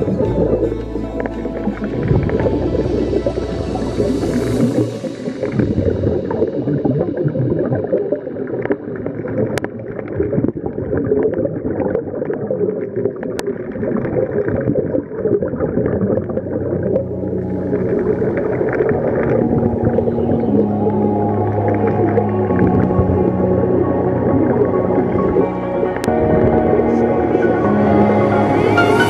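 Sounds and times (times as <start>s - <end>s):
underwater regulator bubbling: 0.0s - 29.0s.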